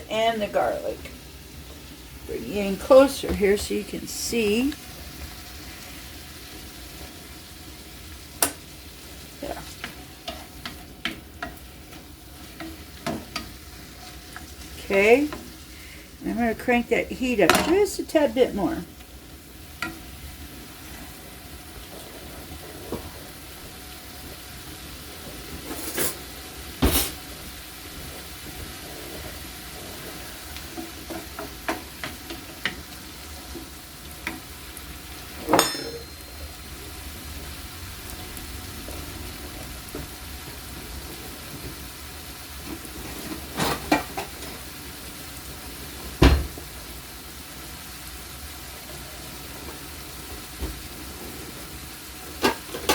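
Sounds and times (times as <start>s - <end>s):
onions sizzling in oil: 0.0s - 52.9s.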